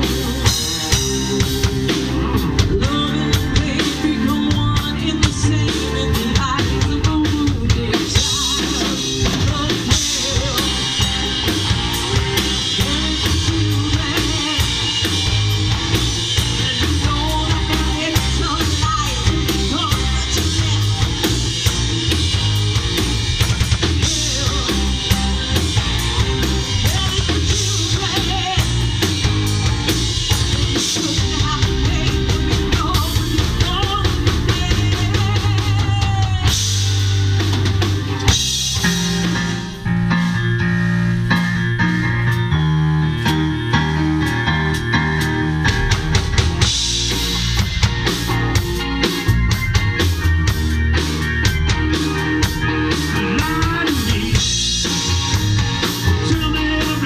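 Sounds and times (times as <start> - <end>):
drum kit beat: 0.0 - 57.0
rock band playing: 0.0 - 57.0.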